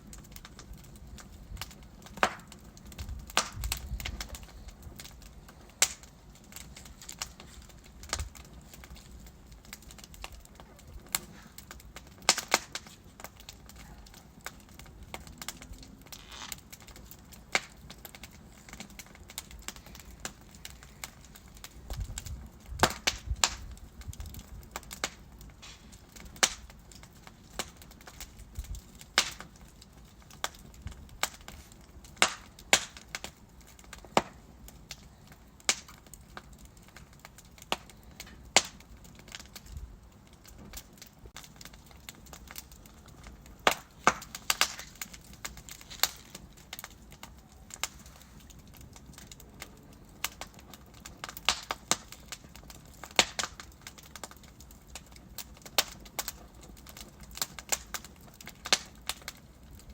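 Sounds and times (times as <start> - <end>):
wood logs crackling in fireplace: 0.0 - 59.9.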